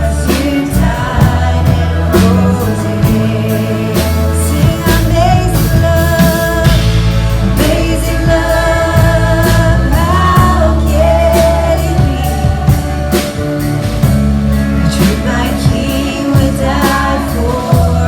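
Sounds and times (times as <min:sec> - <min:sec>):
band playing: 0:00.0 - 0:18.0
worship song singing: 0:00.0 - 0:18.0.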